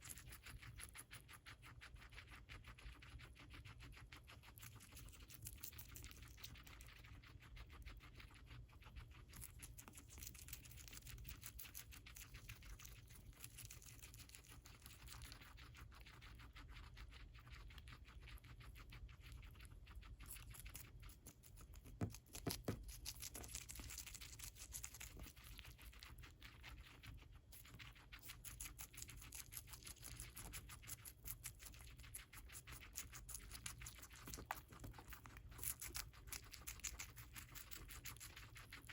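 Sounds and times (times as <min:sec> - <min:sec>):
guinea pig chewing lettuce: 0:00.0 - 0:38.9.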